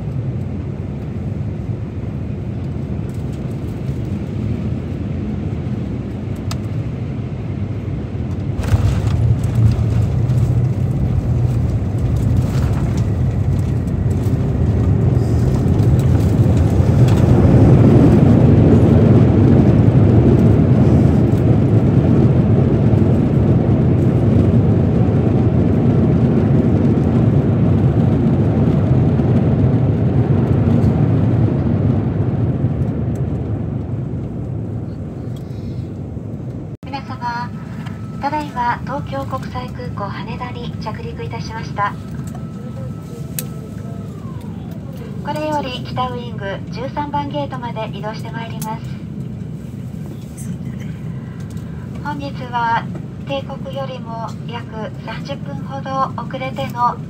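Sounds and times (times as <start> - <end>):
jet engine reverse-thrust roar: 0.0 - 57.0.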